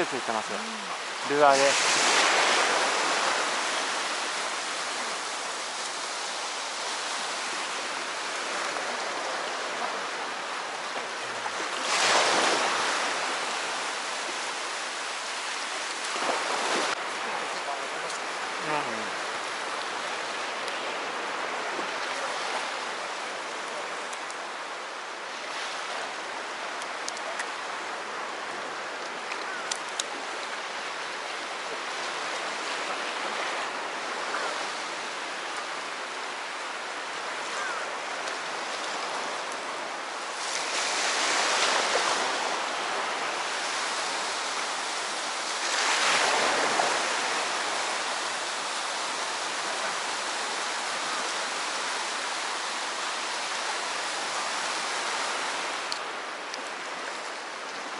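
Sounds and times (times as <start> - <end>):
sea waves washing onto shore: 0.0 - 57.9.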